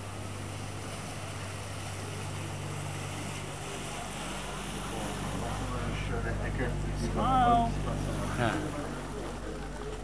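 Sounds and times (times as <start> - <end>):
boat motor humming: 0.0 - 10.0
water noise: 0.0 - 10.0
wind: 0.0 - 10.0.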